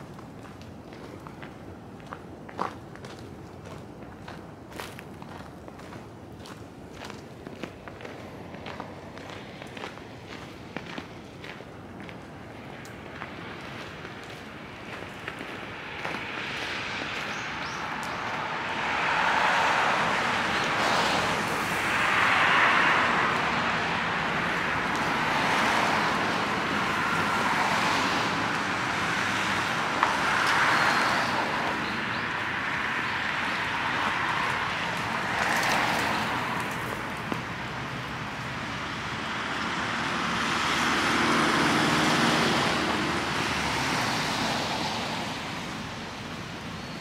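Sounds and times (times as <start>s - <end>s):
cars passing: 0.0s - 47.0s
steady traffic hum: 0.0s - 47.0s.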